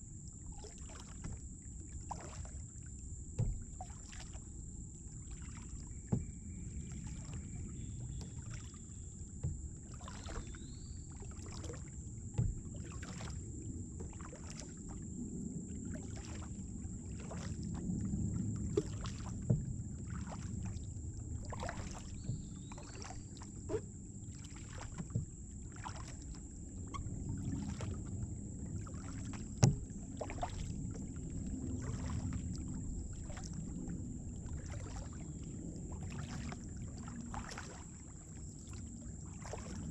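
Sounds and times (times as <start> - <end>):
water sloshing at hull: 0.0 - 39.9
paddle splashing: 0.3 - 39.9
paddle knocking plastic kayak: 0.6 - 39.9.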